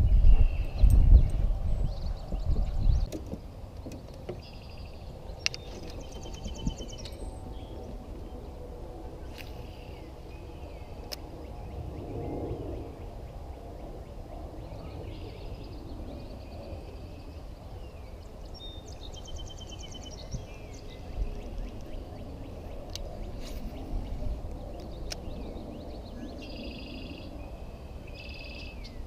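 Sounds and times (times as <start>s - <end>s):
low outdoor rumble: 0.0s - 29.0s
songbirds trilling: 0.0s - 29.0s.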